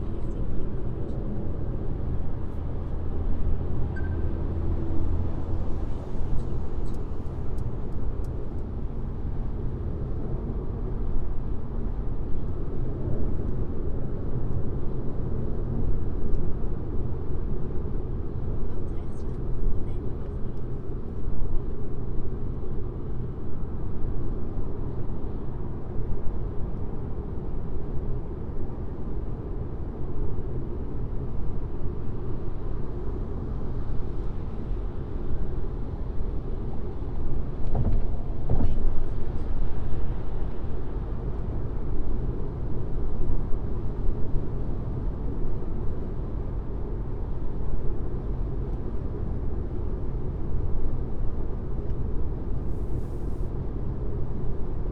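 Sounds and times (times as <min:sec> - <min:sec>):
car tyres and engine hum: 0:00.0 - 0:54.9.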